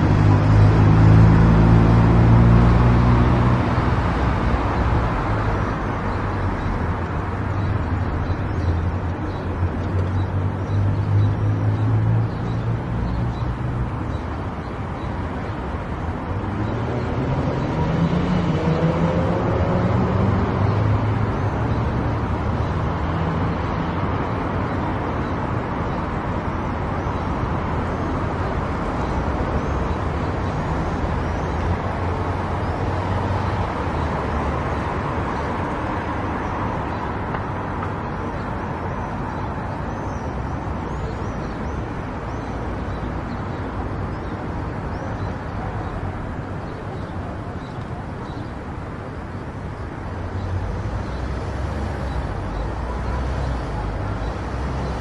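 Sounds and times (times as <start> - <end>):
tyre and road noise: 0.0 - 55.0.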